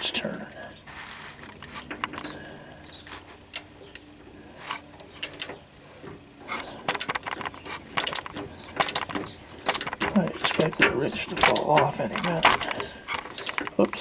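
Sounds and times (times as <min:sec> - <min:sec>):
ratcheting wrench clicking: 0:01.4 - 0:05.7, 0:06.4 - 0:14.0.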